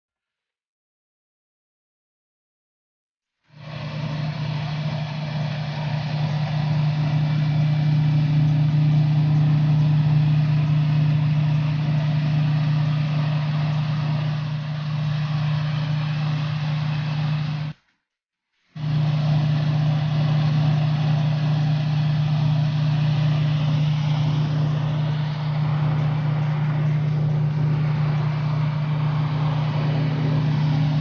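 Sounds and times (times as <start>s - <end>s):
machinery engine humming: 3.6s - 17.8s, 18.8s - 31.0s.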